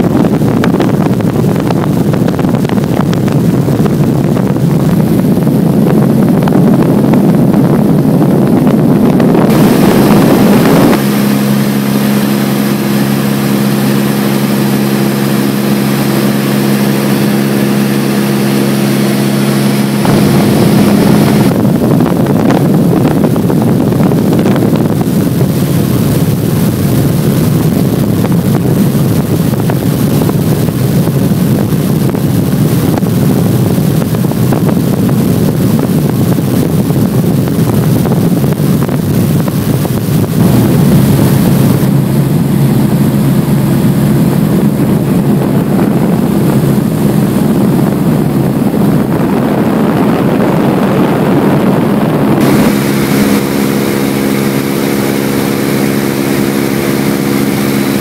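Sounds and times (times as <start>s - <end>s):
propeller engine droning: 0.0s - 58.0s
wind noise: 0.0s - 58.0s.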